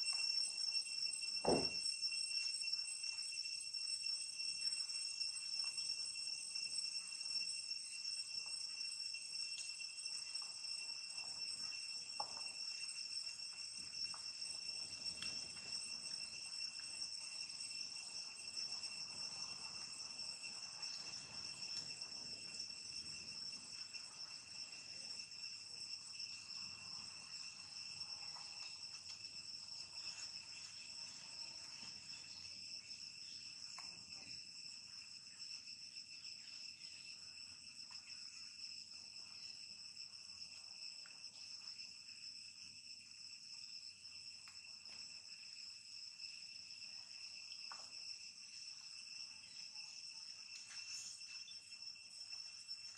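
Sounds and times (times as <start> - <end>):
insect chorus: 0.0 - 52.9.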